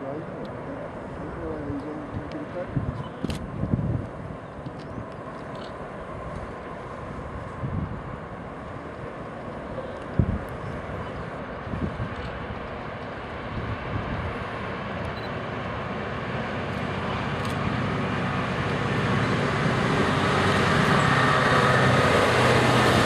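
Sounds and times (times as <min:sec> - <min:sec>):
engine hum: 0:00.0 - 0:23.0
train rumble: 0:00.0 - 0:23.0.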